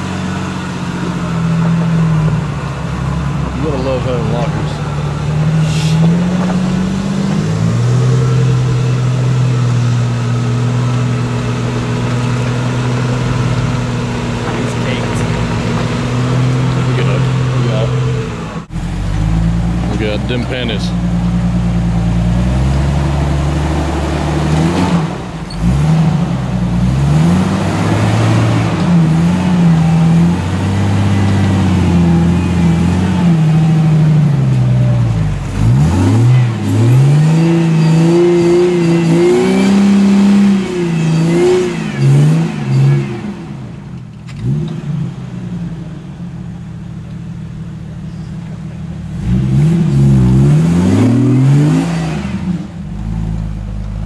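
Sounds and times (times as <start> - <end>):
engine revving under load: 0.0 - 46.3, 49.0 - 54.0.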